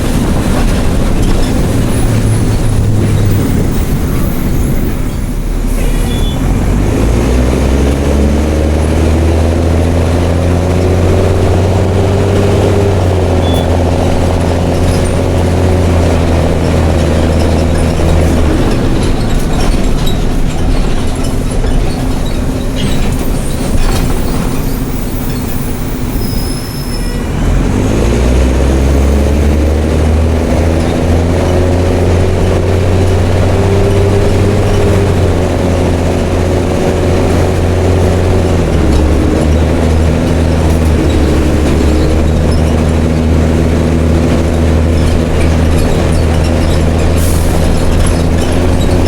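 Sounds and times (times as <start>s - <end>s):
bus diesel engine droning: 0.0s - 49.0s.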